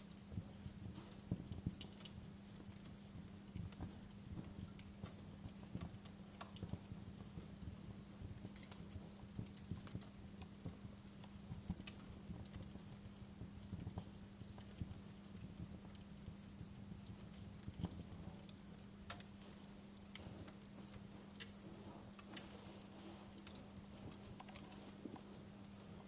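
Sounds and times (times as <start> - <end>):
low steady hum: 0.0 - 26.0
wood fire crackling: 0.0 - 26.0.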